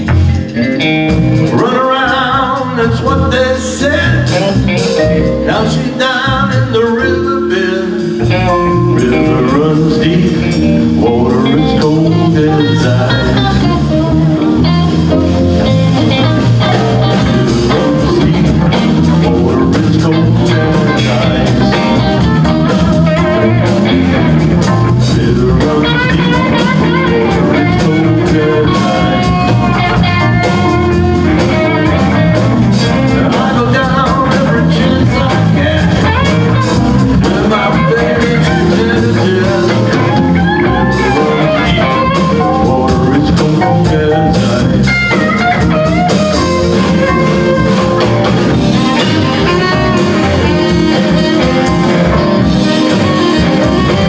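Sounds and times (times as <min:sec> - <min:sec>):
bass guitar: 0:00.0 - 0:54.0
drum kit: 0:00.0 - 0:54.0
electric guitars: 0:00.0 - 0:54.0
keyboard: 0:00.0 - 0:54.0.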